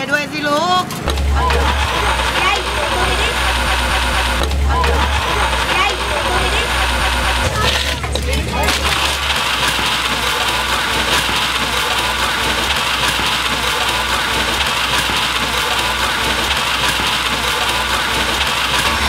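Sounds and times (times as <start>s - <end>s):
busy street market noise: 0.0s - 19.0s
motor running: 0.9s - 19.0s.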